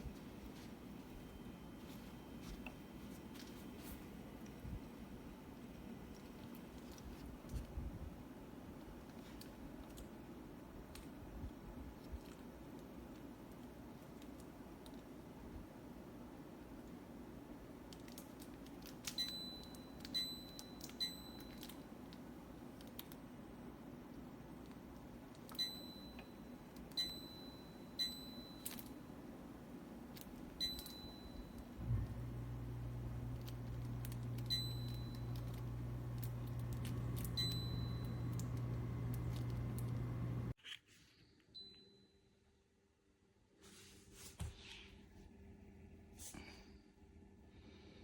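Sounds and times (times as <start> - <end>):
low steady hum: 0.0 - 40.6.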